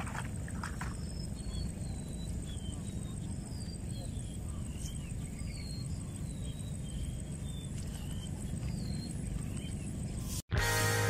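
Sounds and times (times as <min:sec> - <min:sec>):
faint high whine: 0:00.0 - 0:11.0
high bird chirps: 0:00.8 - 0:10.4.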